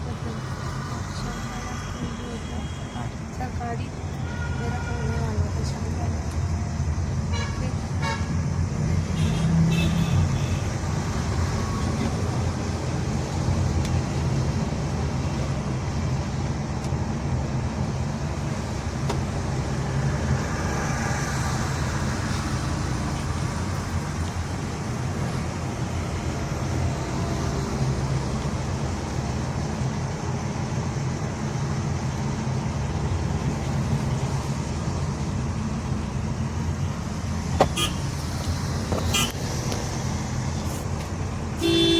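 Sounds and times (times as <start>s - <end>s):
road and engine hum: 0.0s - 41.9s.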